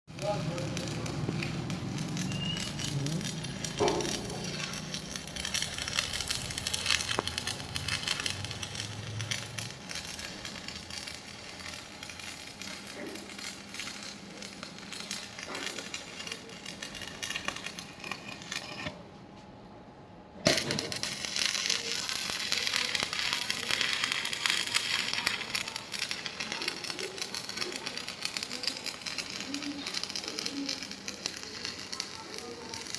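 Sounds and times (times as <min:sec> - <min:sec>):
welding arc crackling: 0:00.1 - 0:19.0, 0:20.4 - 0:32.9.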